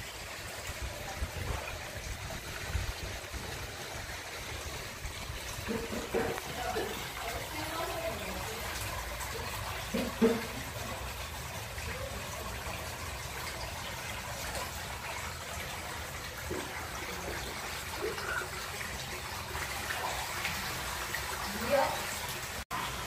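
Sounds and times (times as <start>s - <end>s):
water pouring into a stone tub: 0.0s - 23.0s.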